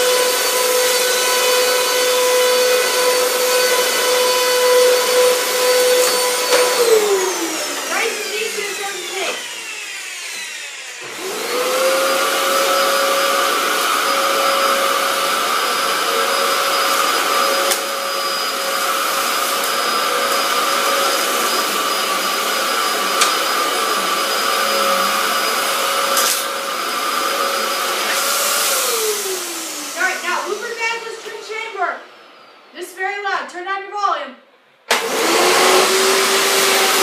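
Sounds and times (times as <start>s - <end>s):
upright vacuum cleaner motor: 0.0s - 32.7s, 34.9s - 37.0s.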